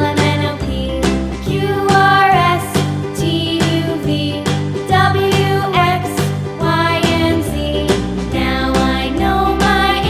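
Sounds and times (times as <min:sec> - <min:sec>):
children's music with steady beat: 0:00.0 - 0:10.0.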